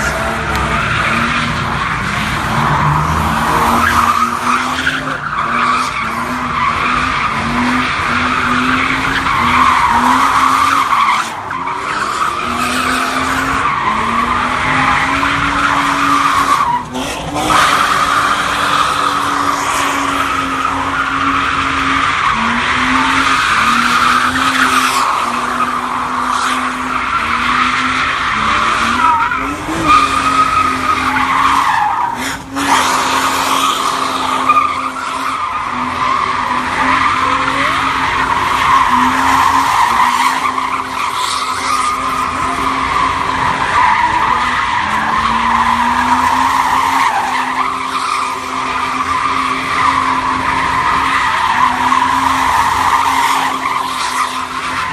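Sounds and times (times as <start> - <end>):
car engine at high revs: 0.0 - 54.9
tire squealing: 0.0 - 54.9.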